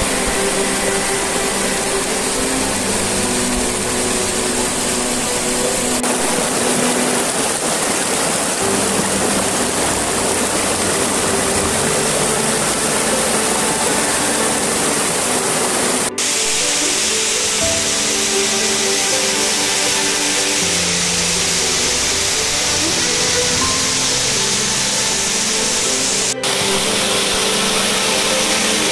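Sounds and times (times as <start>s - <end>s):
waterfall rushing over rocks: 0.0s - 28.9s.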